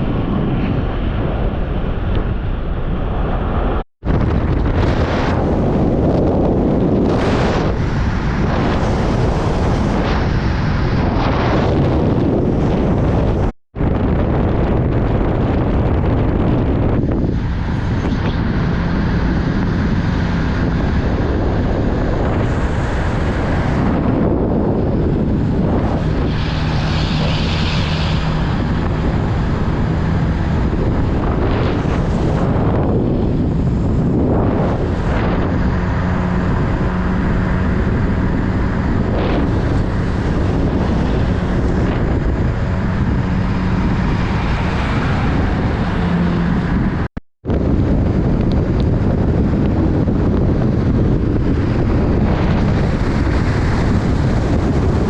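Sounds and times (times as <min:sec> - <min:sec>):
low engine hum: 0:00.0 - 0:55.0
wind rumble on microphone: 0:00.0 - 0:55.0.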